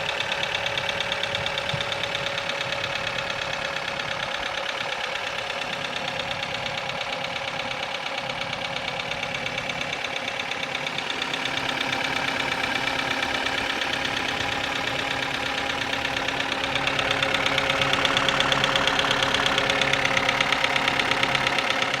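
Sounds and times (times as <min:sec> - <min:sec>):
car engine running: 0:00.0 - 0:22.0
engine knock clacking: 0:00.0 - 0:22.0.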